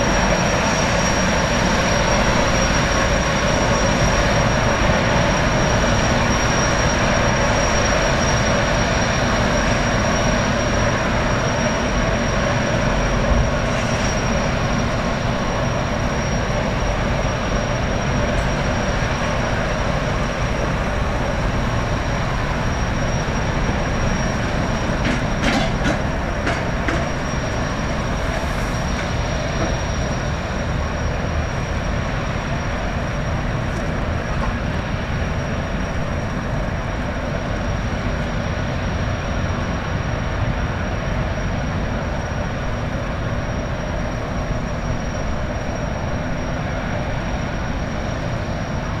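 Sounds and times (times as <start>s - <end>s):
boat turbine and water jet roar: 0.0s - 49.0s
thin high whine: 0.0s - 49.0s.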